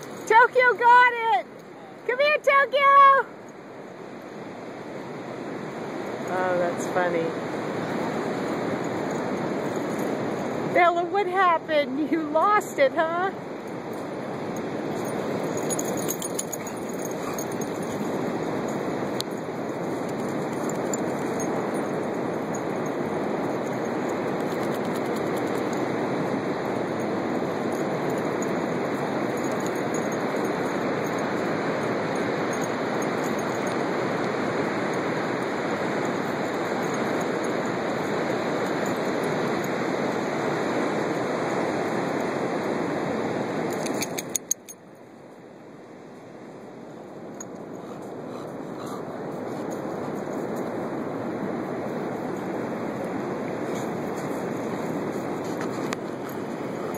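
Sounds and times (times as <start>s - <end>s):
surf and wind on beach: 0.0s - 56.9s.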